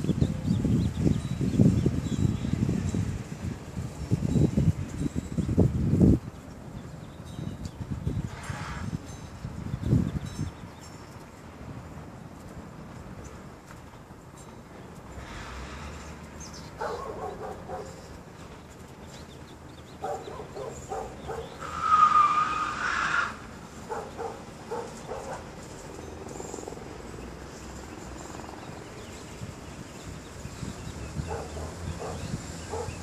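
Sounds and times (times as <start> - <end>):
low traffic rumble: 0.0 - 33.0.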